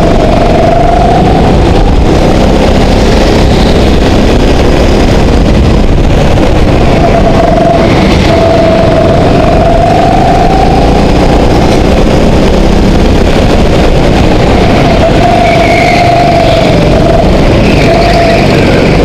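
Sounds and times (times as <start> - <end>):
go-kart engine whining: 0.0 - 19.0.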